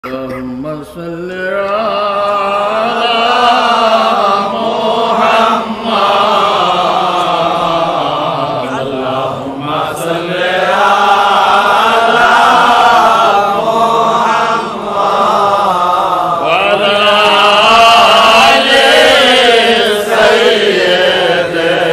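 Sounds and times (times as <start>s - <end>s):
person chanting melodically: 0.0s - 21.9s.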